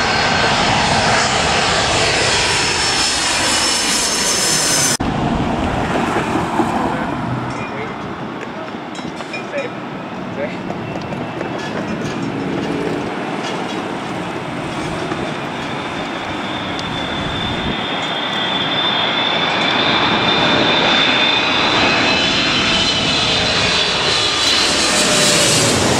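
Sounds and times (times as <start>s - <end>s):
jet engine rumble: 0.0s - 25.9s.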